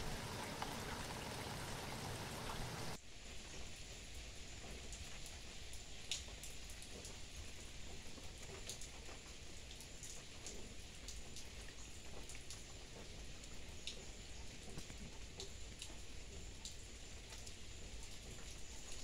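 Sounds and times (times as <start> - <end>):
raindrops striking close by: 0.0 - 19.0
steady rain falling: 0.0 - 19.0.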